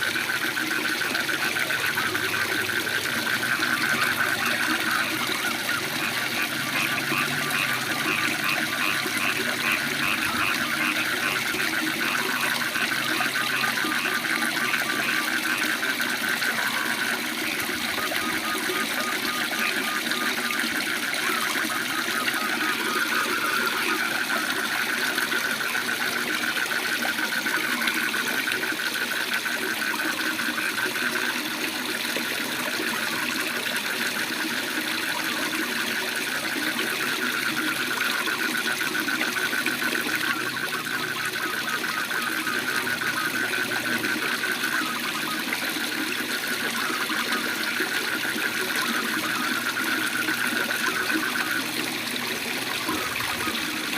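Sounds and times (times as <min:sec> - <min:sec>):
frogs trilling: 0:00.0 - 0:53.9.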